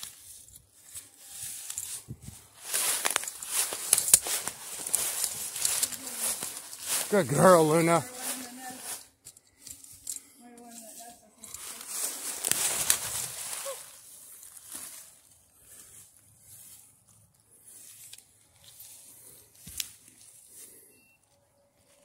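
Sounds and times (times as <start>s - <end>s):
footsteps in dry leaves: 0.0s - 9.2s, 10.6s - 20.8s.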